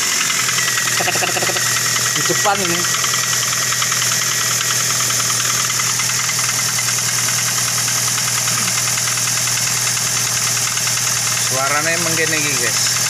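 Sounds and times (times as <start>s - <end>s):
car engine with rapid rattle: 0.0s - 13.0s.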